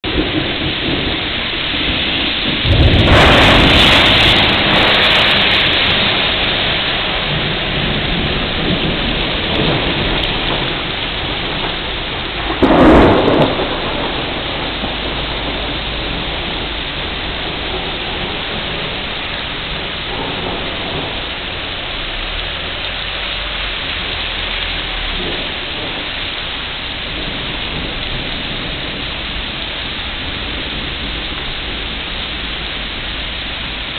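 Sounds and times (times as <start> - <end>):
sharp crack of thunder: 0.0 - 21.8, 25.2 - 26.2, 26.8 - 33.9
heavy rain on pavement and leaves: 0.0 - 33.9
thunder rumbling: 0.0 - 33.9.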